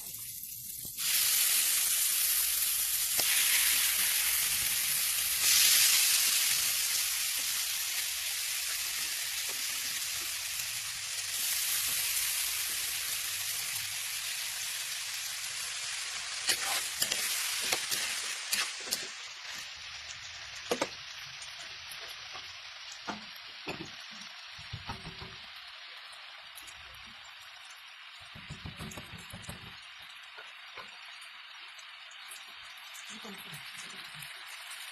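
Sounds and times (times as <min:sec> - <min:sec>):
food sizzling in a pan: 0:00.0 - 0:34.9.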